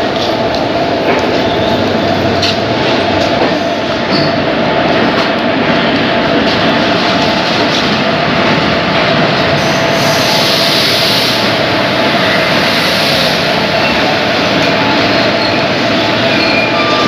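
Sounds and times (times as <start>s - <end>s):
trains rumbling past: 0.0s - 17.0s.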